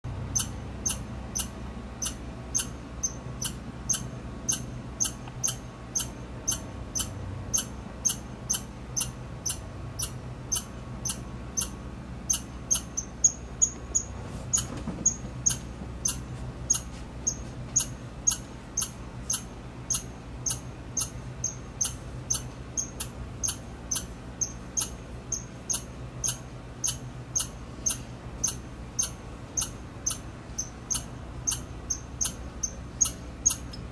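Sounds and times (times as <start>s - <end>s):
squirrel chirping: 0.2s - 33.9s.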